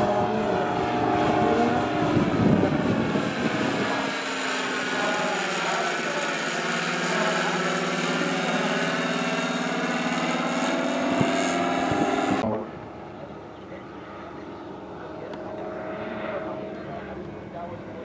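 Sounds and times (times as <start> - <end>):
model airplane engine in flight: 0.0 - 18.0.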